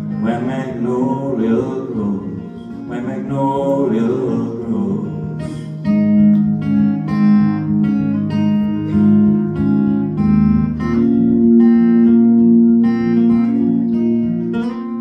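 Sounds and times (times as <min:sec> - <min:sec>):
guitar playing plucked notes: 0:00.0 - 0:15.0.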